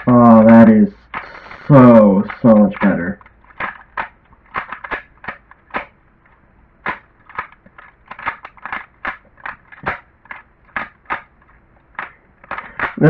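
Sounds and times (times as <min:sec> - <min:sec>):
puzzle cube clicking snaps: 0:00.0 - 0:06.0, 0:06.8 - 0:13.0.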